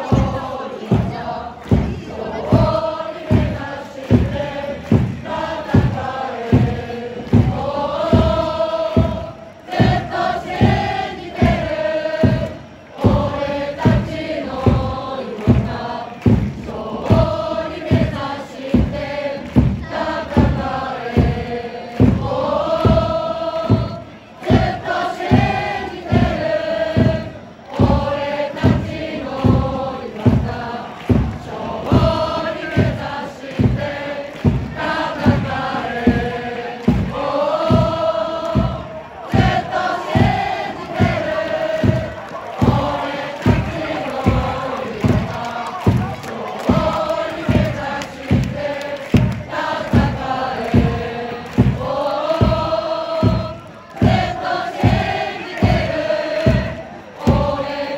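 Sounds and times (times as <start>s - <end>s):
crowd chanting: 0.0s - 57.9s
steady drum beat: 0.0s - 57.9s.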